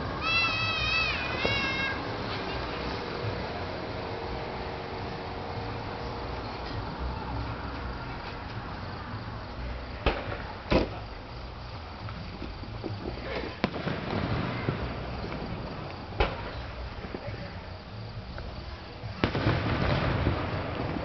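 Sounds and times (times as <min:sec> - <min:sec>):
fireworks booming: 0:00.0 - 0:08.6, 0:09.9 - 0:11.4, 0:12.0 - 0:21.0
crowd murmur: 0:00.0 - 0:21.0.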